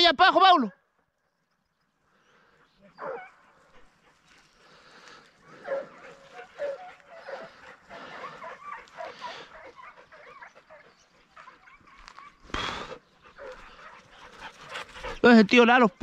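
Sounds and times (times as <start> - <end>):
hounds baying and yelping: 1.4 - 16.0.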